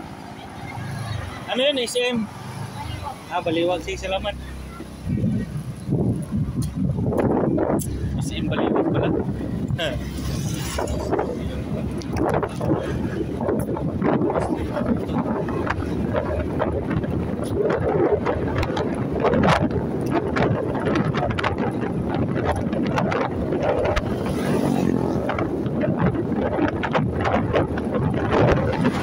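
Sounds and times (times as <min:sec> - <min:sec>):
motorcycle engine hum: 0:00.0 - 0:29.0
road noise: 0:00.0 - 0:29.0
wind buffeting microphone: 0:00.0 - 0:29.0.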